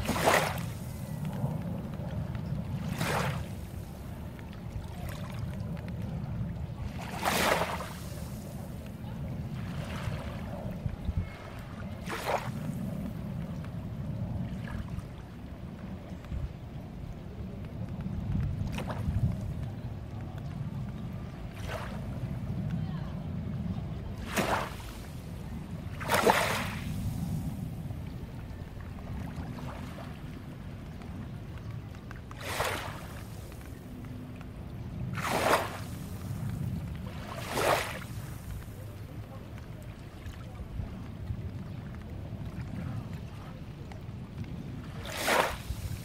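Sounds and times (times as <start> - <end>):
wash of water: 0.0 - 15.8, 17.9 - 46.0
steady low rumble: 0.0 - 32.4, 33.0 - 45.0
small waves splashing: 0.0 - 46.0.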